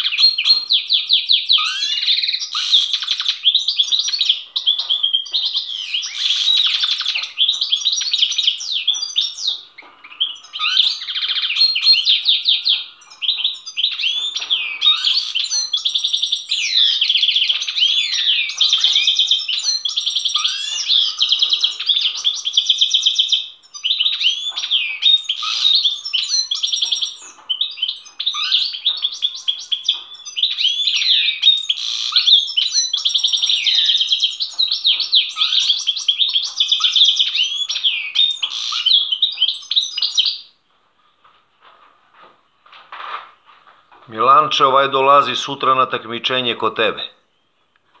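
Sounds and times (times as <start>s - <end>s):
goldfinch singing: 0.0s - 40.5s.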